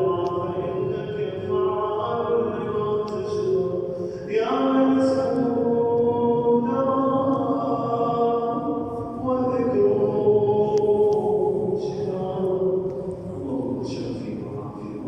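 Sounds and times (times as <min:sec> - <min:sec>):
person chanting in sung style: 0:00.0 - 0:15.0.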